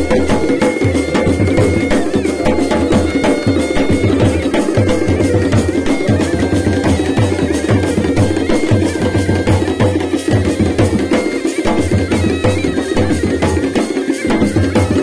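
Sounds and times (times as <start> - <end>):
bagpipe held tones: 0.0 - 15.0
drums beating fast rhythm: 0.0 - 15.0.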